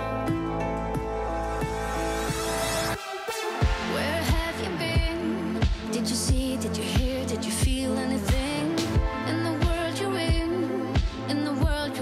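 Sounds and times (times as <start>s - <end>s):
background music pulsing notes: 0.0s - 12.0s.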